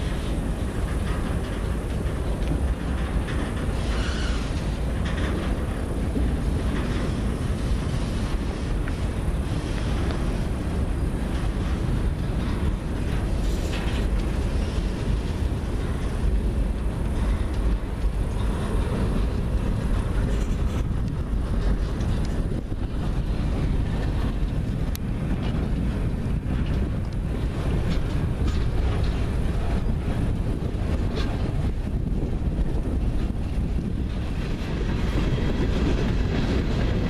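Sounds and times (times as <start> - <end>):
freight cars rumbling on rails: 0.0 - 37.0.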